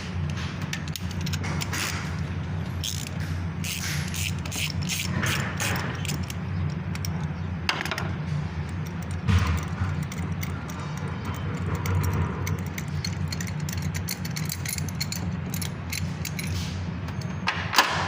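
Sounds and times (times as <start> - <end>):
steady low hum: 0.0 - 18.0
ratchet clicking: 0.2 - 8.0, 8.6 - 17.5.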